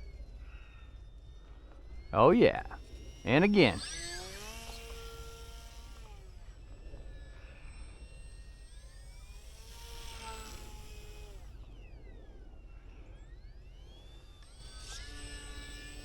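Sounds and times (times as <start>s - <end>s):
model plane propeller whining: 0.0s - 16.0s.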